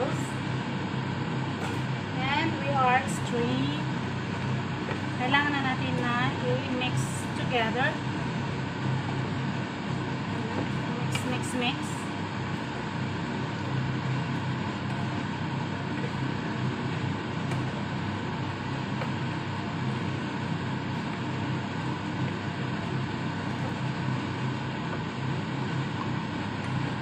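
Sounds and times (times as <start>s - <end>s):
kitchen fan drone: 0.0s - 27.0s.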